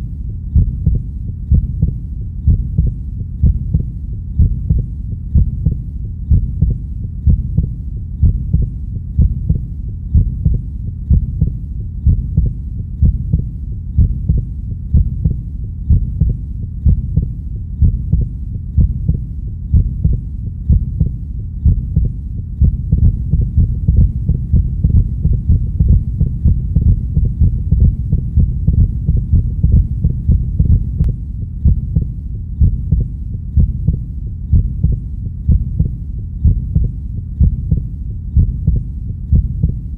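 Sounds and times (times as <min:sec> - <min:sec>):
constant low hum: 0:00.0 - 0:39.9
slow heartbeat thuds: 0:00.0 - 0:39.9.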